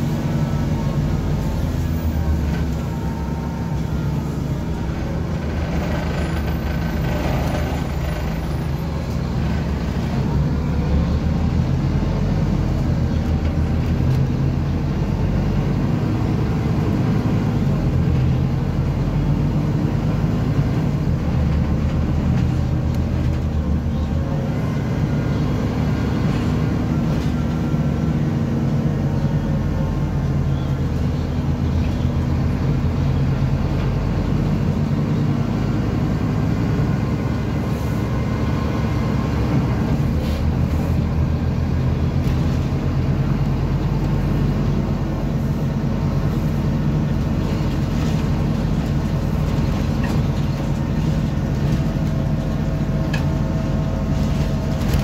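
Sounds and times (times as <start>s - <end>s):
diesel engine droning: 0.0s - 55.0s
tyre and road noise: 0.0s - 55.0s.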